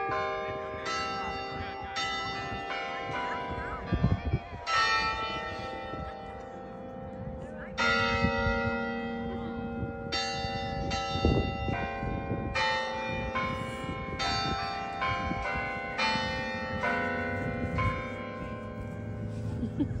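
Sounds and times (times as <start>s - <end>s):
carillon bells playing carol: 0.0s - 20.0s.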